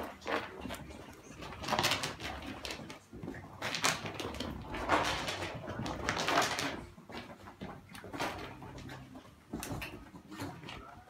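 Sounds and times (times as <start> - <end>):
cat and dog play-fighting on carpet: 0.0 - 11.0.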